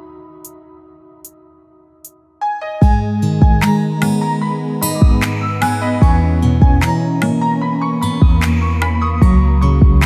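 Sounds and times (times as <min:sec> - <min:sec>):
soft sustained music: 0:00.0 - 0:10.0.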